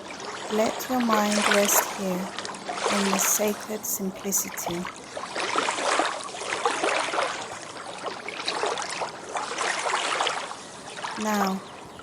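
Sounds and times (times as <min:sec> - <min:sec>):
small waves lapping on beach: 0:00.0 - 0:12.0.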